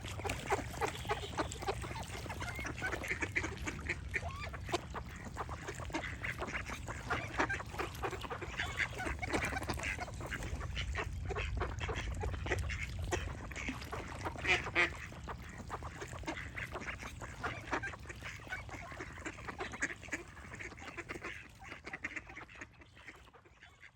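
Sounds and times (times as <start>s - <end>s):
ducks quacking: 0.0s - 23.9s.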